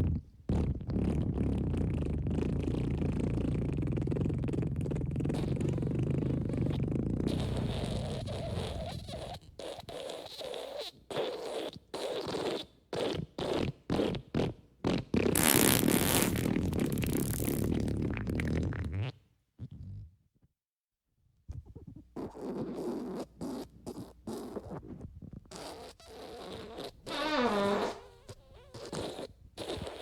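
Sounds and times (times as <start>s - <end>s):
fart sounds: 0.0s - 20.2s, 21.5s - 30.0s.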